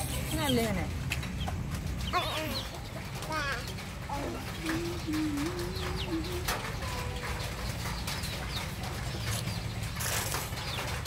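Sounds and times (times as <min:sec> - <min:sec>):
chickens clucking: 0:00.0 - 0:11.0
chicks peeping: 0:00.0 - 0:11.0
rustle: 0:00.0 - 0:11.0.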